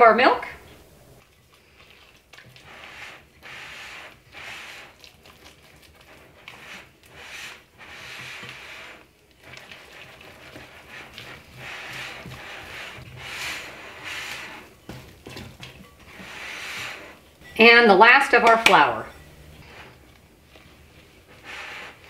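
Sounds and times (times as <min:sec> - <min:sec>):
spatula scraping dough in bowl: 0:01.6 - 0:22.0.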